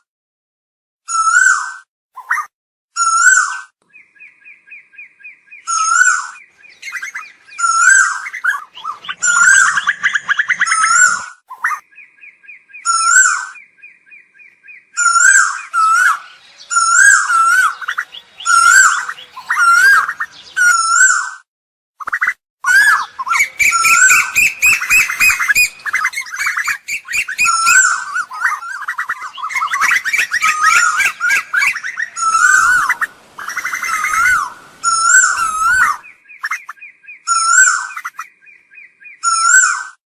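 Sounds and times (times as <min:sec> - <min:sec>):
koels calling: 0:05.0 - 0:21.4, 0:22.0 - 0:38.6.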